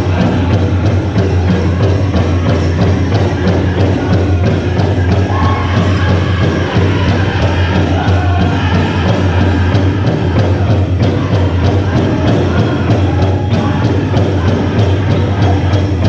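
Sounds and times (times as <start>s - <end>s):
big drum steady beat: 0.0s - 16.0s
group of voices singing: 0.0s - 16.0s.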